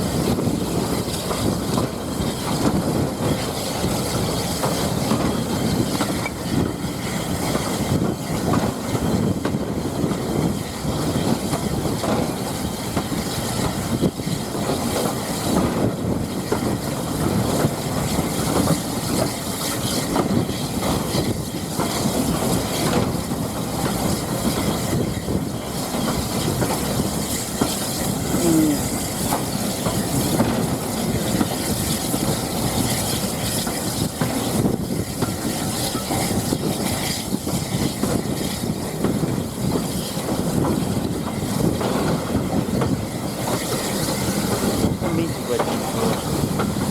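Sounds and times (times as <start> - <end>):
train wheels rumbling on track: 0.0 - 46.9.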